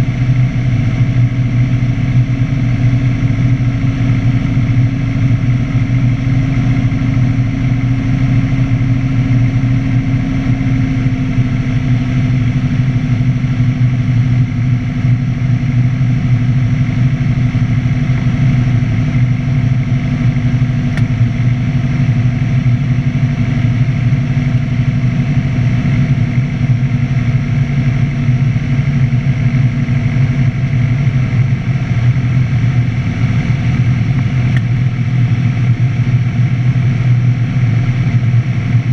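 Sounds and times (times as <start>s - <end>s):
light aircraft engine droning: 0.0s - 38.9s.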